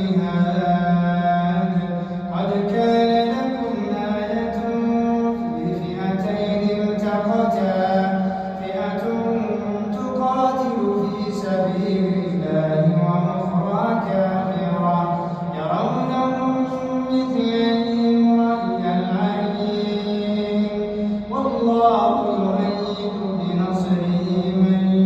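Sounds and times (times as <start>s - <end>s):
man chanting melodically: 0.0s - 25.0s.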